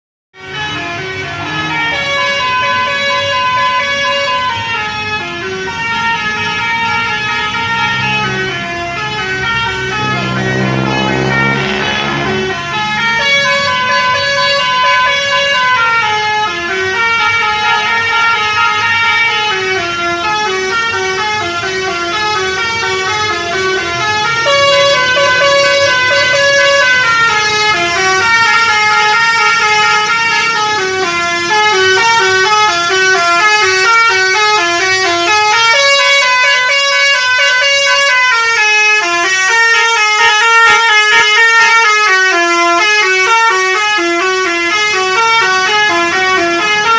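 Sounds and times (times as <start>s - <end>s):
musical bus horn melody: 0.4s - 46.9s.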